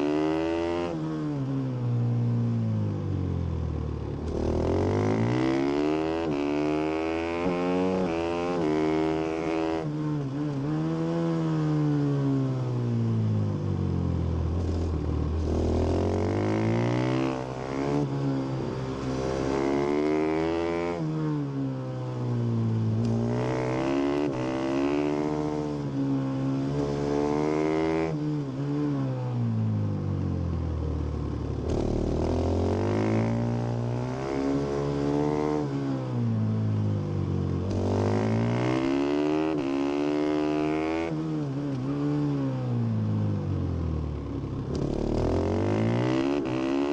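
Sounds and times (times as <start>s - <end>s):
motorcycle engine revving: 4.1s - 12.0s, 14.2s - 21.4s, 22.6s - 29.6s, 31.0s - 46.9s.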